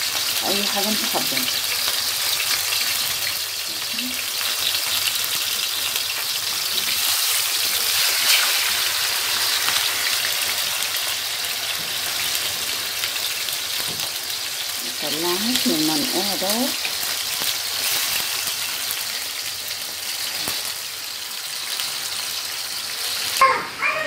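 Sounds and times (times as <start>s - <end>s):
chicken frying in oil: 0.0s - 24.0s.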